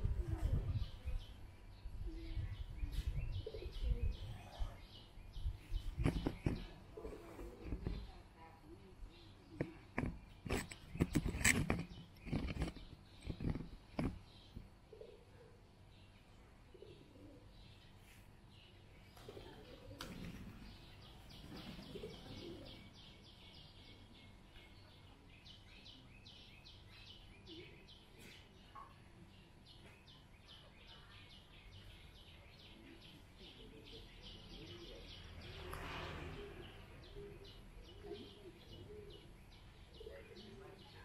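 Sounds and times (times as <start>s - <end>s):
murmur of distant voices: 0.0s - 41.0s
bird chirping: 0.4s - 8.2s, 9.1s - 41.0s.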